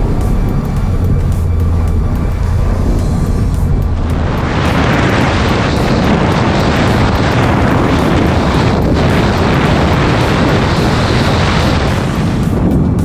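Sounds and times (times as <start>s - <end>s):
car engine and exhaust cruising: 0.0s - 13.0s
wind noise rushing: 0.0s - 13.0s.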